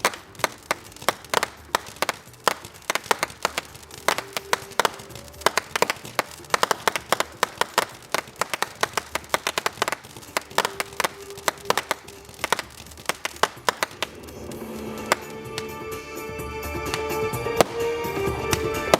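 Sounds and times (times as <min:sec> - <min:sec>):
fireworks crackling: 0:00.0 - 0:18.9.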